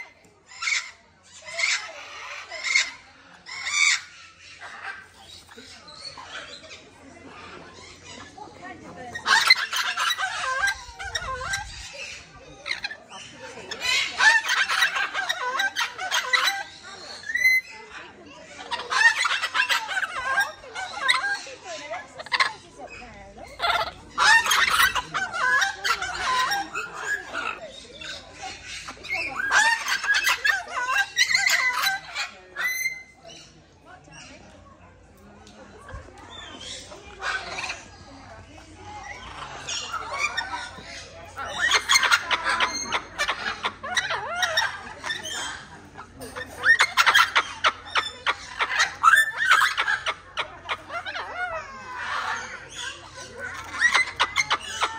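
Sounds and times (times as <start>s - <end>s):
parrots squawking: 0.0s - 8.4s, 9.0s - 33.5s, 36.3s - 54.9s.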